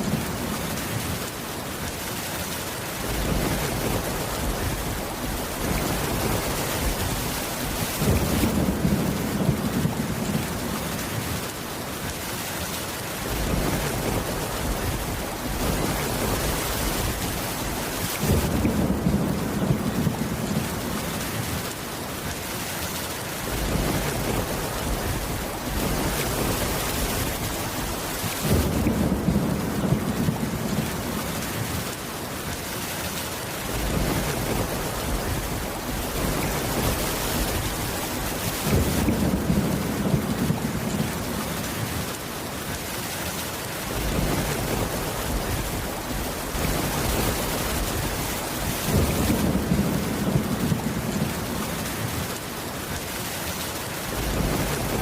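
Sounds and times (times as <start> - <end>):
low rolls of thunder: 0.0 - 1.4, 3.0 - 11.6, 13.2 - 21.8, 23.4 - 32.0, 33.6 - 42.2, 43.9 - 52.4, 54.0 - 55.0
heavy rain: 0.0 - 55.0.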